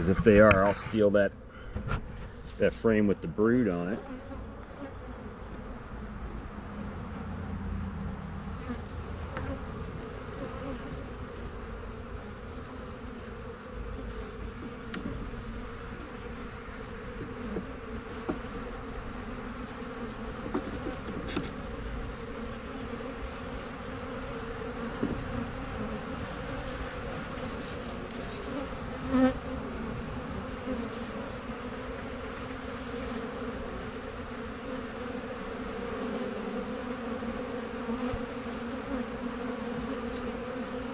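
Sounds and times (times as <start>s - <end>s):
honey bees buzzing: 0.0s - 40.9s.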